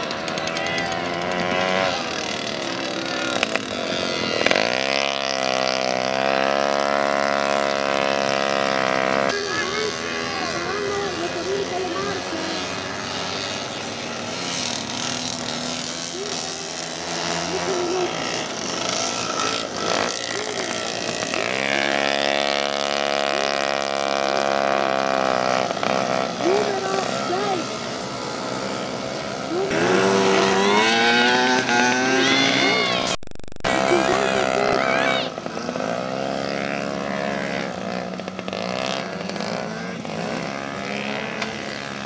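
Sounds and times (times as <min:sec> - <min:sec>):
engine revving past: 0:00.0 - 0:42.0
moped engines buzzing: 0:00.0 - 0:42.0.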